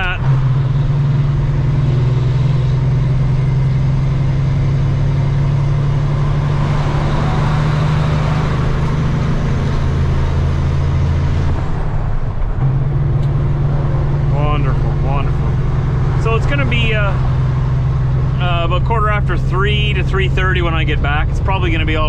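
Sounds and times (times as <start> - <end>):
diesel truck engine drone: 0.0 - 22.0
road noise: 0.0 - 22.0.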